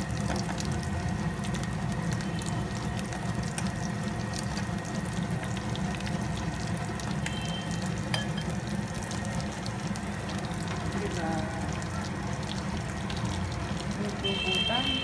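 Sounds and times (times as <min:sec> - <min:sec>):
patties sizzling in hot oil: 0:00.0 - 0:15.0.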